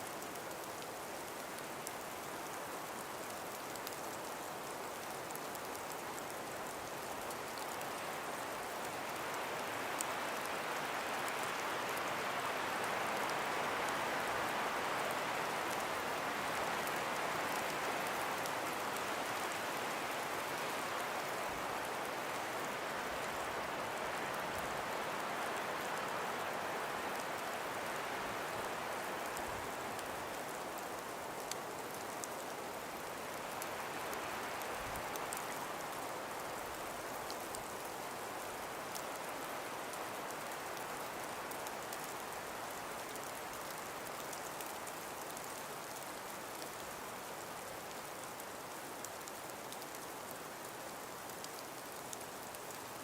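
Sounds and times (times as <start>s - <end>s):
breeze through trees: 0.0s - 53.0s
faint light ticks: 0.0s - 53.0s.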